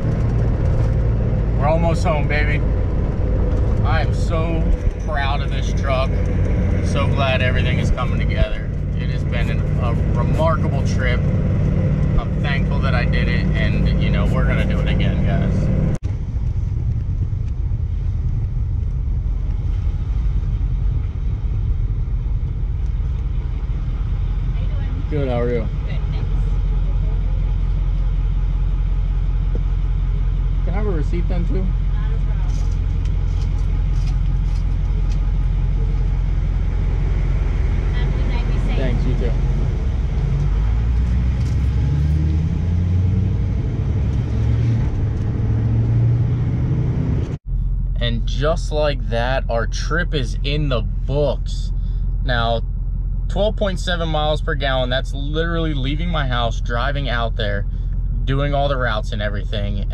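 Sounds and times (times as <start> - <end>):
diesel truck engine rumble: 0.0 - 59.9.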